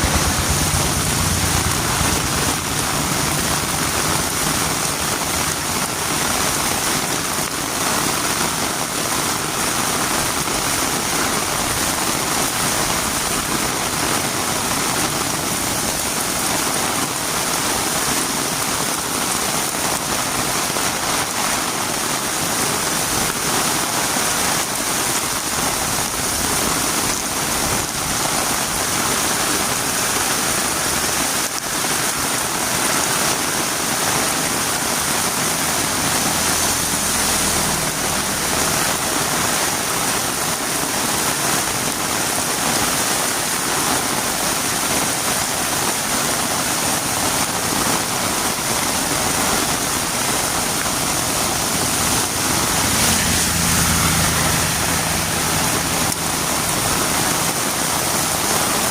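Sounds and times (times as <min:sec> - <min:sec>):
heavy rain on road: 0:00.0 - 0:58.9.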